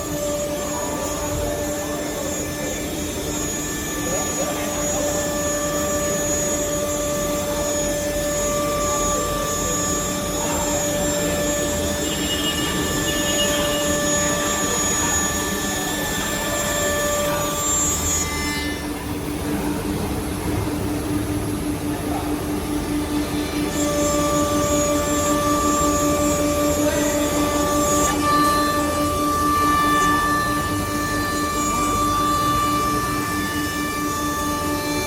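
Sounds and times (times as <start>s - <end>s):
router machine whine: 0.0s - 35.0s.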